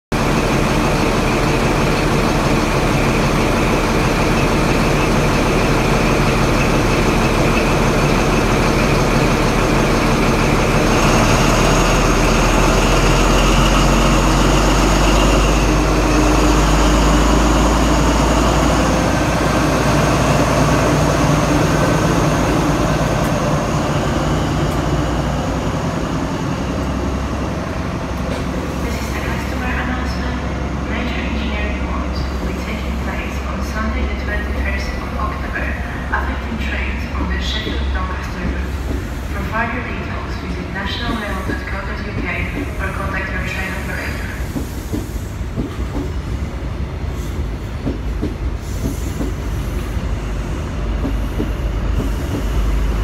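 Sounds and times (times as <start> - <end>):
diesel train engine running: 0.1 - 53.0.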